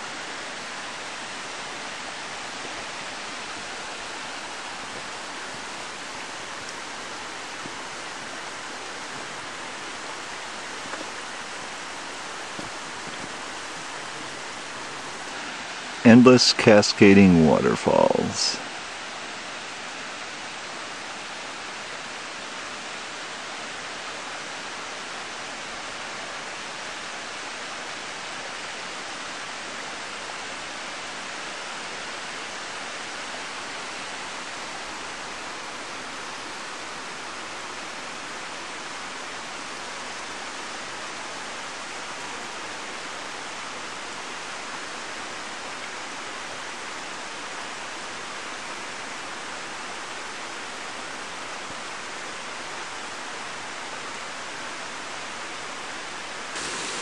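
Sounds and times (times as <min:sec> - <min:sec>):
waterfalls rushing: 0:00.0 - 0:48.0, 0:56.3 - 0:57.0.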